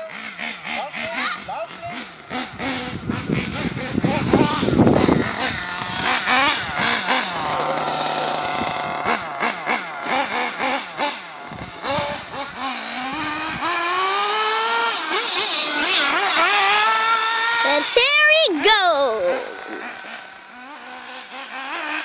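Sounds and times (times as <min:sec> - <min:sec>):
model car engine revving: 0:00.0 - 0:22.0.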